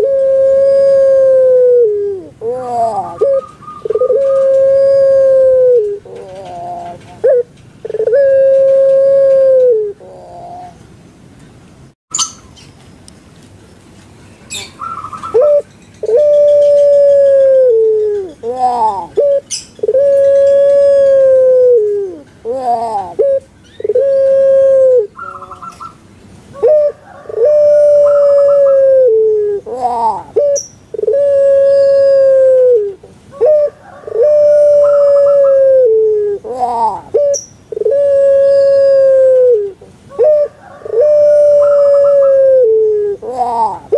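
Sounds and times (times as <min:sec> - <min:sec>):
dove cooing: 0:00.0 - 0:10.8, 0:14.5 - 0:43.9.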